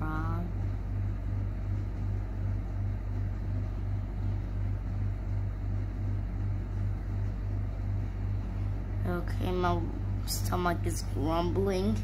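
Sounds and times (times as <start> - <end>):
throbbing machine hum: 0.0 - 12.0.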